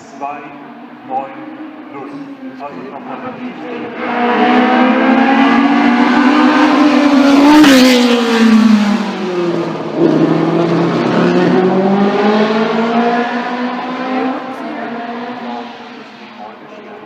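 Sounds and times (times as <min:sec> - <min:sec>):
racing car engine at full throttle: 0:00.0 - 0:17.0
second engine climbing in pitch: 0:01.0 - 0:16.0.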